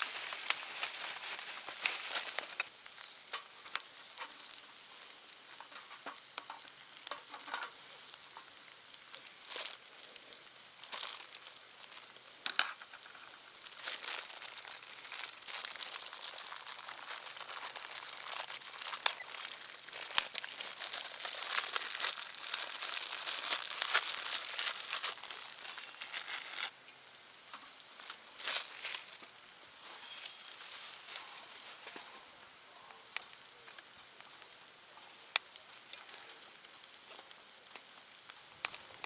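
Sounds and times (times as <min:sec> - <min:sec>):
meat sizzling on a grill pan: 0:00.0 - 0:31.4.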